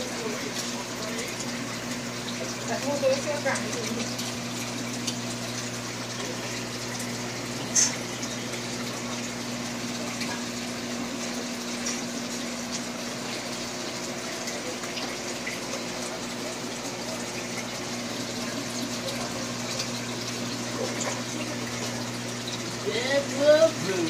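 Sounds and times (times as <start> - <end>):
aquarium air bubbles hissing: 0.0 - 24.0
pump electric hum: 0.0 - 24.0.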